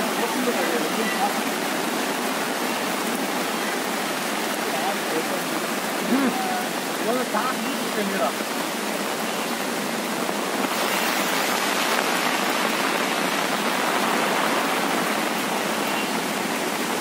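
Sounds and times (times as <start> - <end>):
floodwater rushing: 0.0 - 17.0
rain falling: 0.0 - 17.0.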